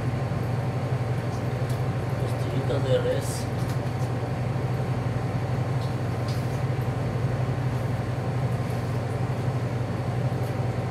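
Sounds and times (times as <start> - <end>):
kitchen machinery humming: 0.0 - 10.9.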